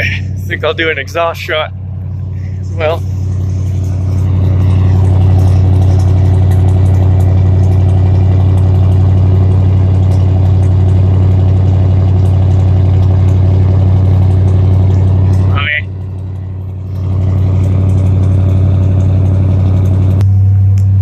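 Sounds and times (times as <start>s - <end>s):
truck engine exhaust at fast idle: 0.0s - 21.0s.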